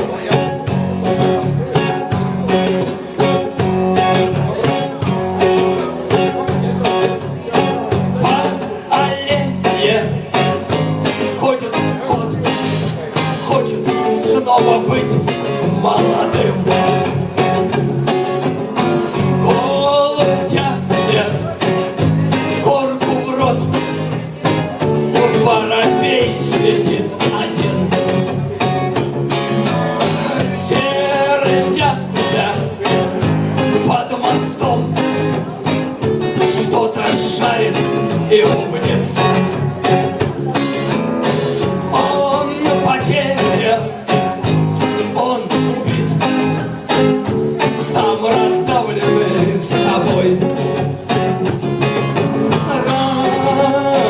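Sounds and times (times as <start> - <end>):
rock band playing guitar-led passage: 0.0 - 54.0.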